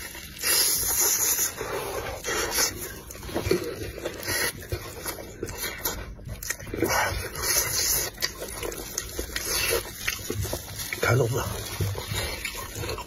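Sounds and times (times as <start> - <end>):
person chewing with open mouth: 0.0 - 13.0.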